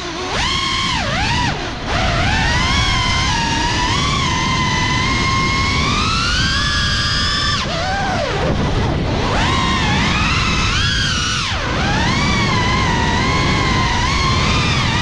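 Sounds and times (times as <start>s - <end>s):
drone motors whining: 0.0s - 15.0s
low rush of wind: 0.0s - 15.0s.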